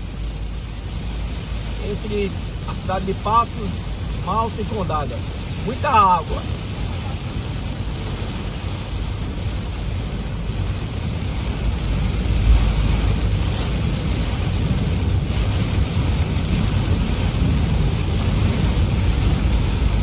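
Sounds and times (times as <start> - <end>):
low rumble: 0.0 - 20.0
rain and wet tyres: 0.0 - 20.0.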